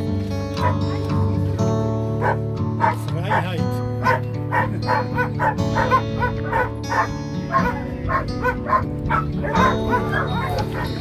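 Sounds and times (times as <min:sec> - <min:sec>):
background music: 0:00.0 - 0:11.0
dog barking and yipping: 0:00.6 - 0:01.0, 0:02.2 - 0:11.0.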